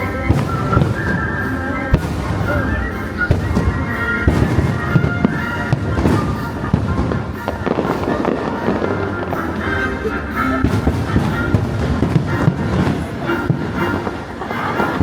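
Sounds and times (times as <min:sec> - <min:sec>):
fireworks bangs: 0:00.0 - 0:15.0
music soundtrack: 0:00.0 - 0:15.0.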